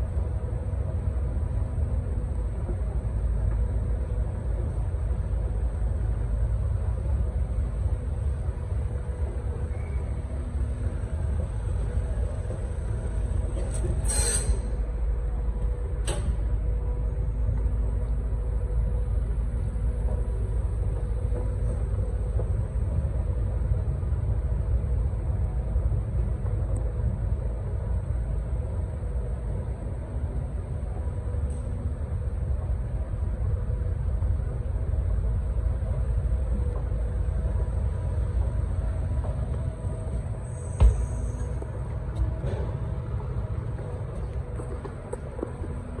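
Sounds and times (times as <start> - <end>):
faint hum: 0.0 - 46.0.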